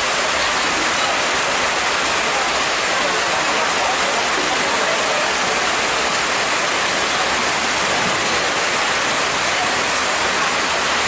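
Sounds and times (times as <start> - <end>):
heavy rain on pond water: 0.0 - 11.0.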